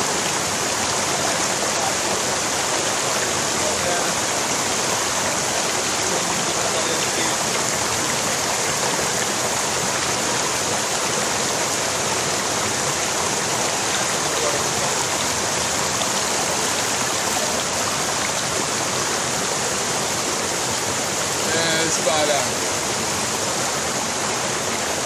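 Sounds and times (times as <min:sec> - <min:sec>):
water rushing over boulders: 0:00.0 - 0:25.0.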